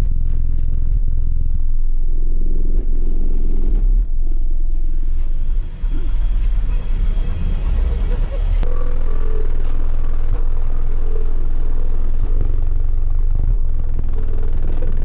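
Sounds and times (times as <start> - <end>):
deep bass from car subwoofers: 0.0 - 15.0.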